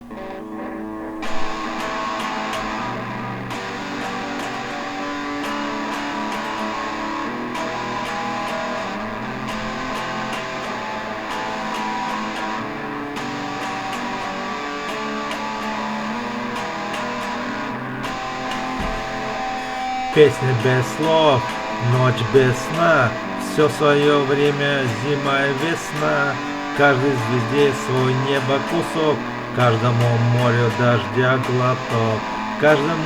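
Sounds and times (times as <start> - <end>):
strummed guitar: 0.0 - 33.0.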